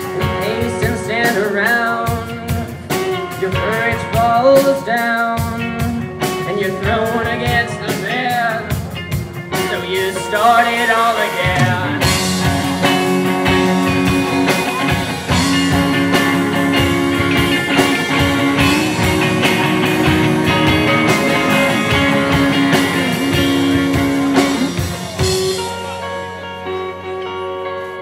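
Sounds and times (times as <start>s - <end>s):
drum kit: 0.0s - 27.2s
electric guitar: 0.0s - 28.0s.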